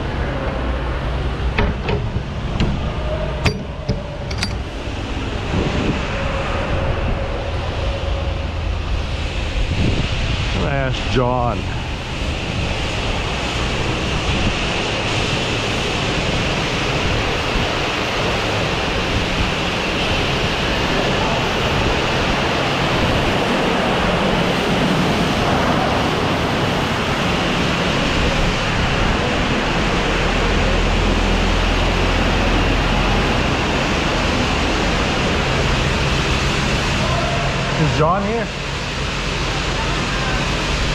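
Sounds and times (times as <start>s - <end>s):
wash equipment rumble: 0.0s - 40.9s
high-pressure water spraying: 0.6s - 40.9s.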